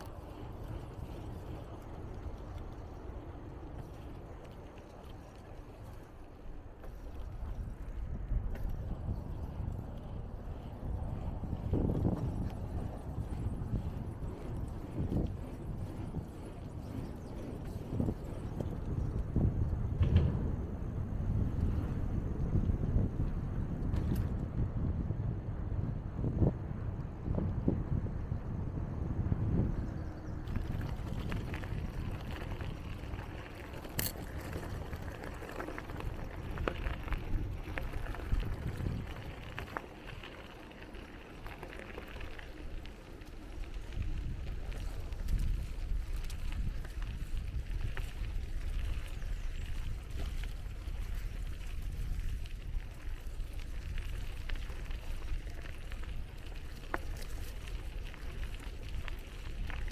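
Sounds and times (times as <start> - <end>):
bicycle clicks and rattles: 0.0 - 25.3, 29.6 - 59.9
wind rumbling on microphone: 0.0 - 59.9.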